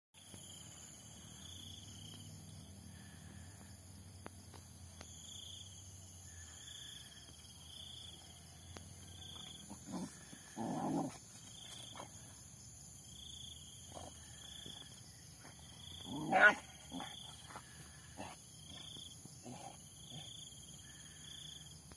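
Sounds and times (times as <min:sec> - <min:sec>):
insects trilling: 0:00.2 - 0:21.9.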